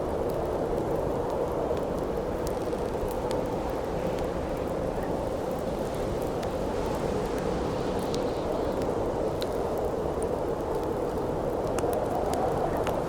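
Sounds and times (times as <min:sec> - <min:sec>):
campfire crackling: 0:00.0 - 0:13.0
howling wind: 0:00.0 - 0:13.0.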